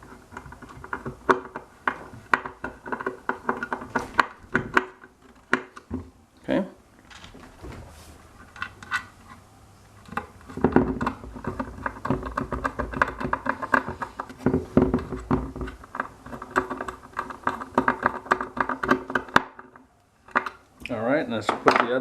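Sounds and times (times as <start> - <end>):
hard parts clicking and scraping: 0.0 - 6.1, 8.4 - 20.7.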